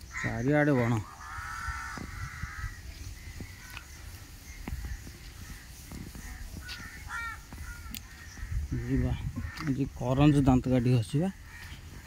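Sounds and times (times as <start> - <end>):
bird calling: 0.0 - 12.0
footsteps on dirt path: 0.8 - 10.6, 11.3 - 12.0.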